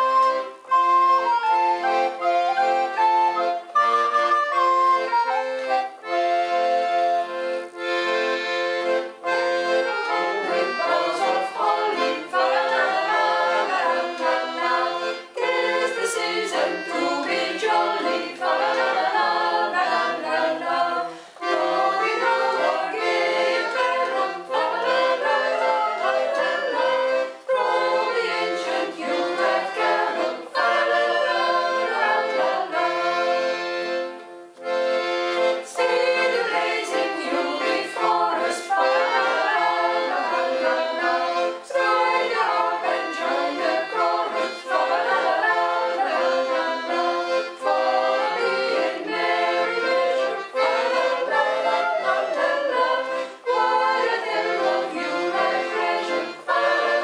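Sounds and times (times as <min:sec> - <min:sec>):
accordion playing carol: 0:00.0 - 0:57.0
group of people singing: 0:01.5 - 0:57.0.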